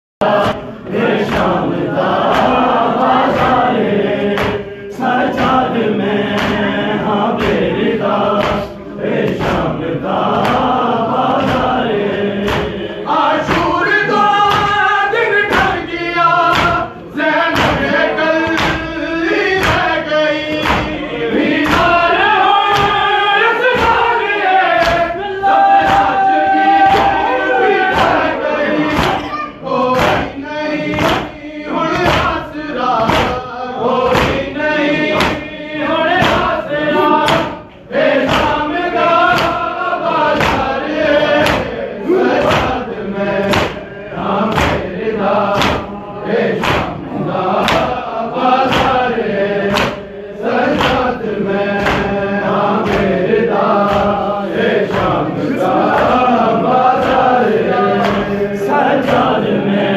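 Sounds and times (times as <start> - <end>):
hands slapping chests: 0.2 - 14.8, 15.5 - 59.5
crowd of men chanting: 0.2 - 59.9.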